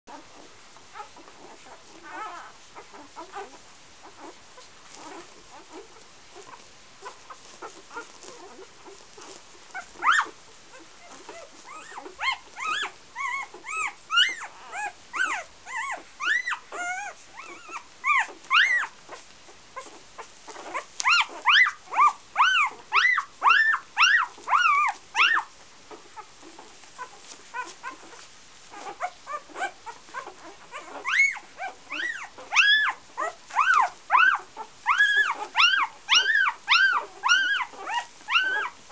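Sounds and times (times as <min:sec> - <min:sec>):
puppies squealing and whimpering: 0:00.1 - 0:38.9.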